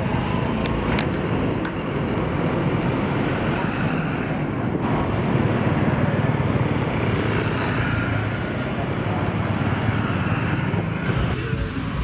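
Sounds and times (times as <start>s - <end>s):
scooter and motorbike engines passing: 2.4s - 12.0s.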